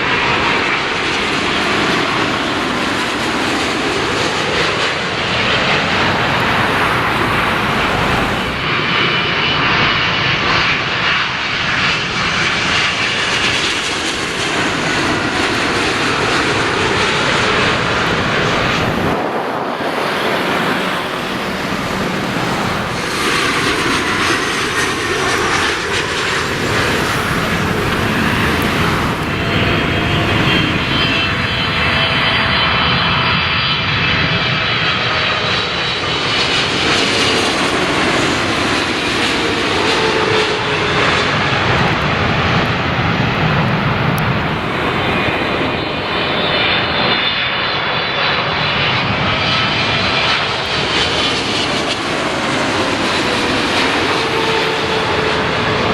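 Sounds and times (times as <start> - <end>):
jet engines roaring and whining: 0.0 - 55.9.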